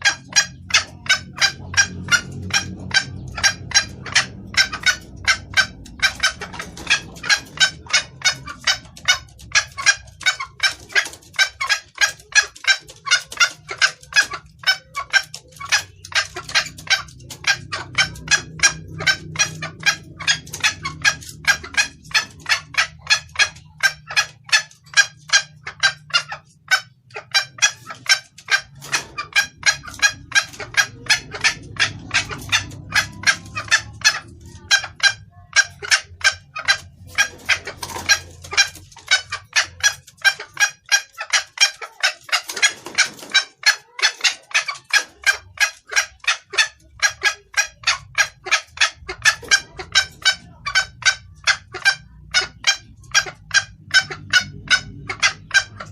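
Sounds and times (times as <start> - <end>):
hen clucking rapidly: 0.0 - 55.9.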